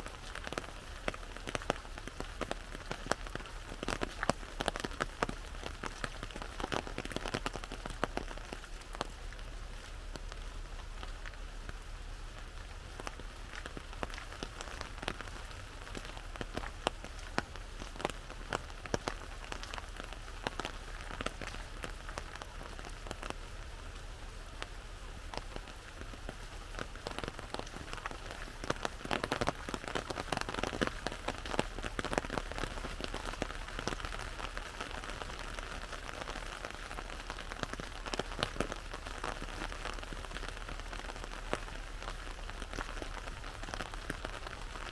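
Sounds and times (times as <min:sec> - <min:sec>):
rain pattering on an umbrella: 0:00.0 - 0:44.9.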